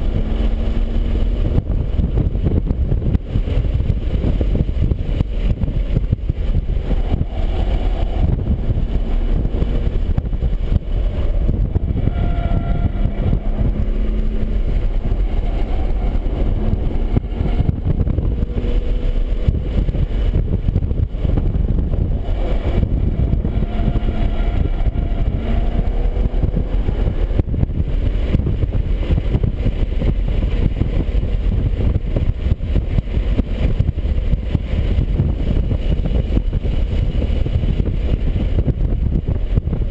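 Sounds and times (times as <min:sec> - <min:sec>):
car engine at speed: 0:00.0 - 0:39.9
road and wind noise: 0:00.0 - 0:39.9.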